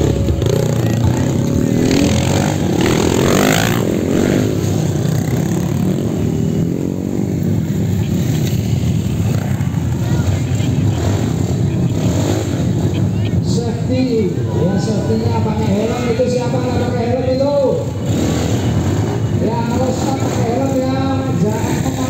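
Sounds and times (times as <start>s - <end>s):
motorcycle revving and passing: 0.0s - 22.0s
rumble of other engines: 0.0s - 22.0s.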